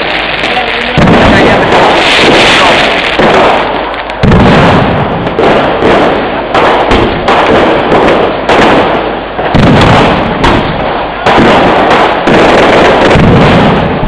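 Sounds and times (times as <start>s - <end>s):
rumble: 0.0s - 14.0s.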